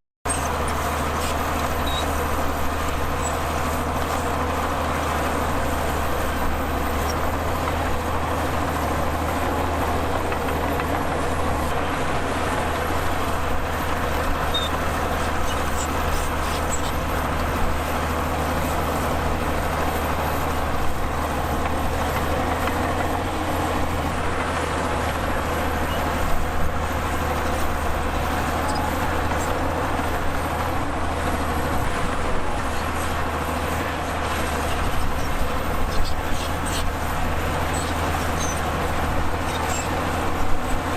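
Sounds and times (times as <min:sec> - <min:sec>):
heavy diesel machinery droning: 0:00.3 - 0:40.9.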